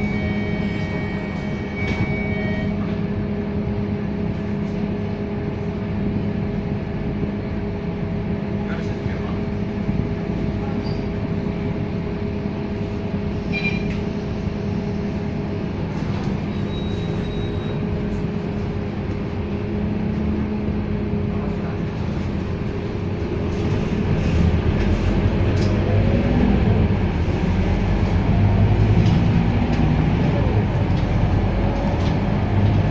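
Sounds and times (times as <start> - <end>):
bus diesel engine whining: 0.0 - 32.9.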